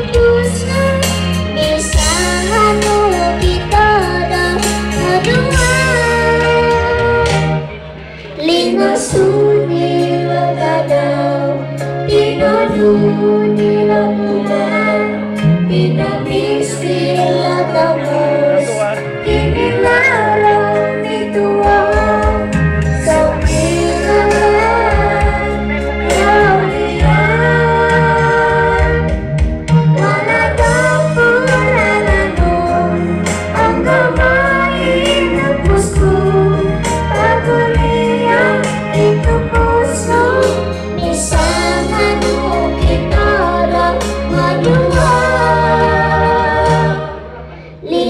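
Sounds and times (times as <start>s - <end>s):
girl singing into microphone: 0.0s - 7.7s, 8.3s - 29.2s, 30.0s - 48.0s
backing music with bass: 0.0s - 48.0s.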